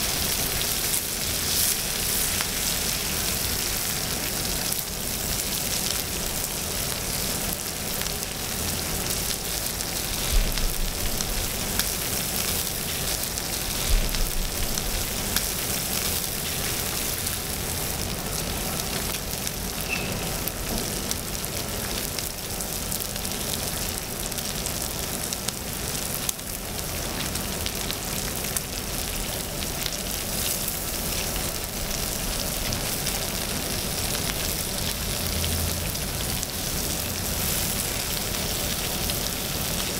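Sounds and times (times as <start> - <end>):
meat sizzling on a griddle: 0.0 - 39.9.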